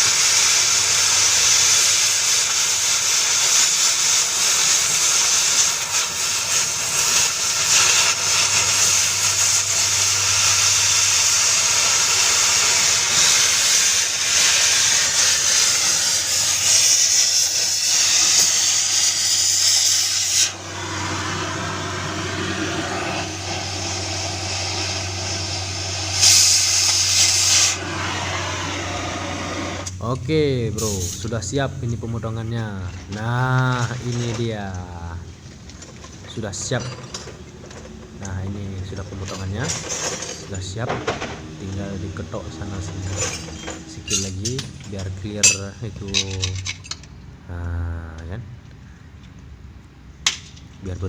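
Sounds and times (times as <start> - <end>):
metal cutting hiss: 0.0 - 47.0
steady low hum: 6.2 - 51.0.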